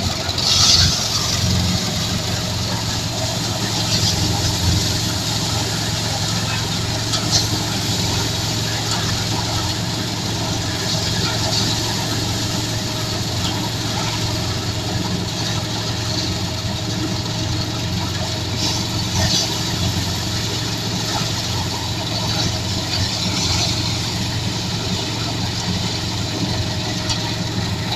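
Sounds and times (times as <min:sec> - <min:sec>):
thresher engine drone: 0:00.0 - 0:27.9.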